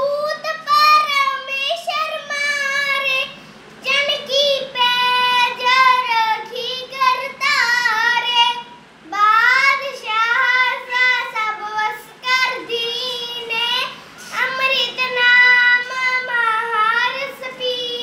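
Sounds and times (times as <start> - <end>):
boy singing a hymn: 0.0 - 18.0.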